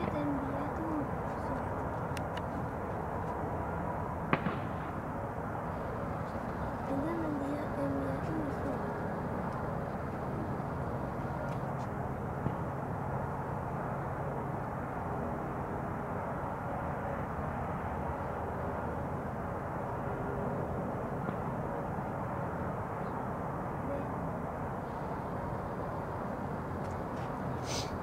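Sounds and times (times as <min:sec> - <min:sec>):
distant helicopter drone: 0:00.0 - 0:28.0
outdoor noise: 0:00.0 - 0:28.0.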